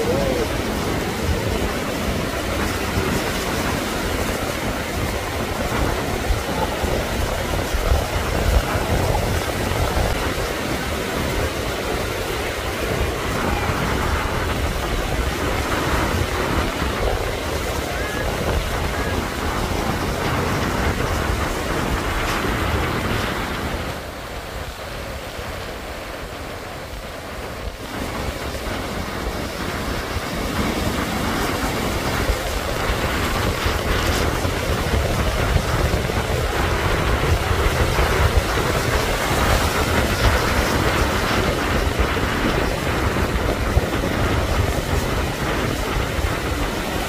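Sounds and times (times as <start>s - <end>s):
ocean surf breaking: 0.0s - 47.0s
wind buffeting microphone: 0.0s - 47.0s.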